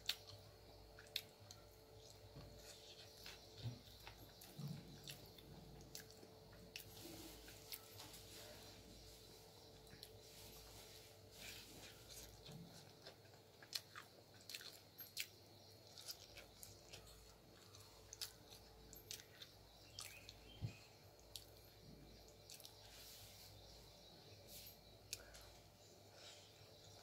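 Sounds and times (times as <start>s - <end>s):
crunchy chewing: 0.0s - 27.0s.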